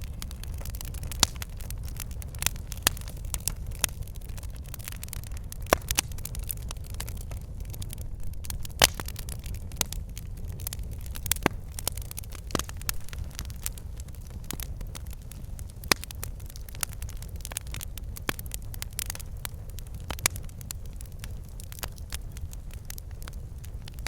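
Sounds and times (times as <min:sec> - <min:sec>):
logs crackling and popping: 0:00.0 - 0:24.0
low rumble of flames: 0:00.0 - 0:24.0.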